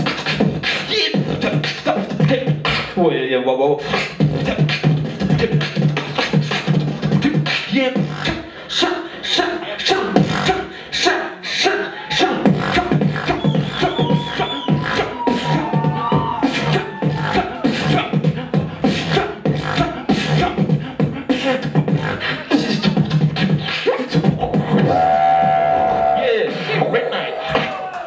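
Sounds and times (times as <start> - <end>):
beatboxing: 0.0 - 28.0.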